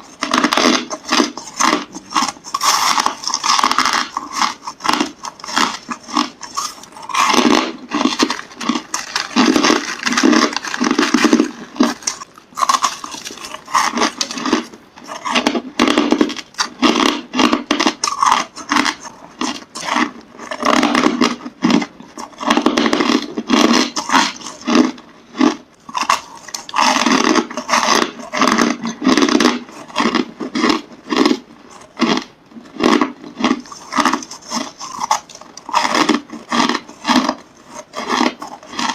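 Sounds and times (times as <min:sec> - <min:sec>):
chewing crushed ice: 0:00.0 - 0:38.9.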